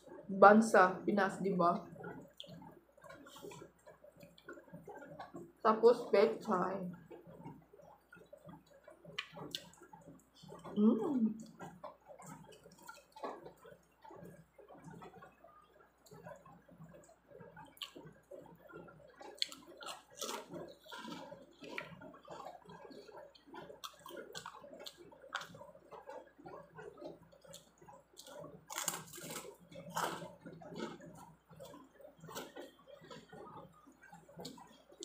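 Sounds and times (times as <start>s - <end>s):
chewing crisp crackers: 0.0s - 0.3s, 1.4s - 35.0s.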